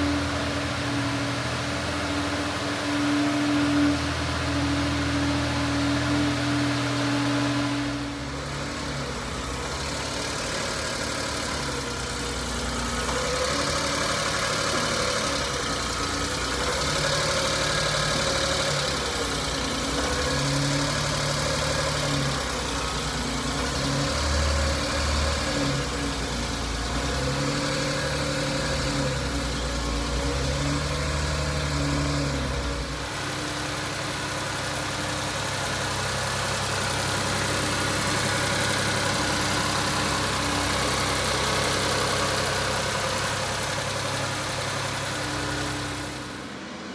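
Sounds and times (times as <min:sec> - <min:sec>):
small truck engine idling: 0:00.0 - 0:46.9.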